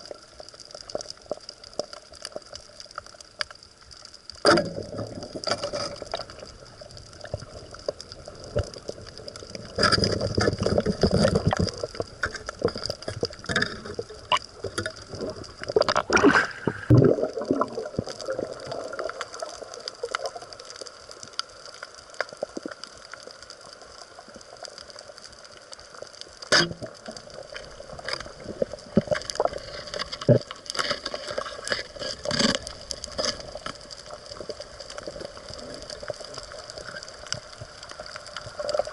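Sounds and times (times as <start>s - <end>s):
sharp clicks and crackles: 0.0s - 38.9s
water gurgling and sloshing: 4.3s - 38.9s
rushes of water: 4.4s - 38.9s.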